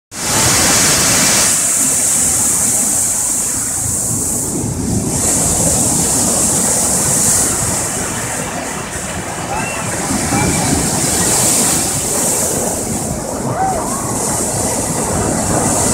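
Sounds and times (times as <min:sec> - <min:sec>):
waves breaking against sea wall: 0:00.1 - 0:15.9.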